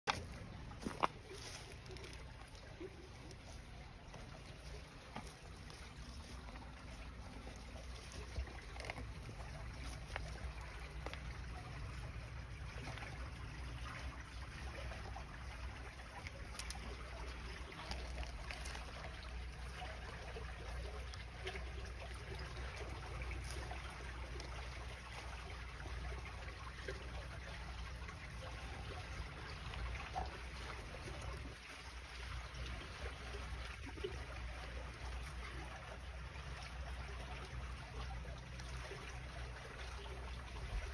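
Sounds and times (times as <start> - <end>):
water trickling in ditch: 0.0 - 40.9.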